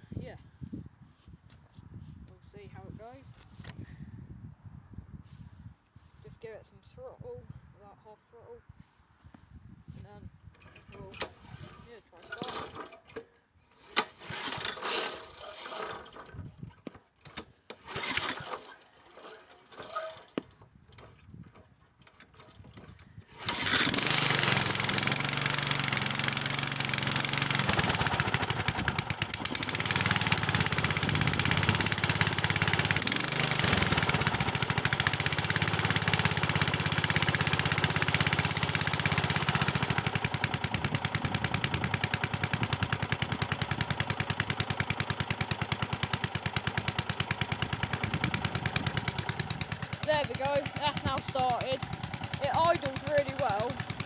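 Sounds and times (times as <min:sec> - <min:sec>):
lawnmower engine starting and running: 0:10.5 - 0:54.0.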